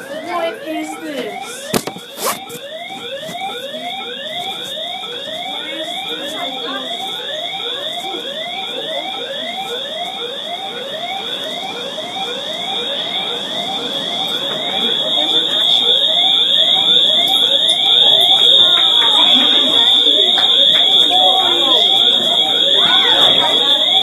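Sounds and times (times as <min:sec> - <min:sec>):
fire alarm whooping: 0:00.0 - 0:24.0
steady high-pitched tone: 0:00.0 - 0:24.0.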